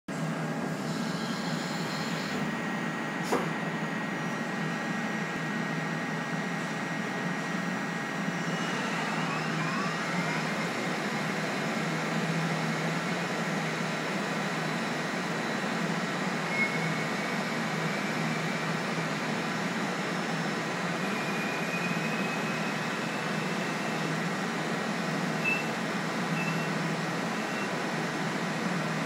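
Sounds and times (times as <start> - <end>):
lathe mechanical hum: 0.1 - 29.0.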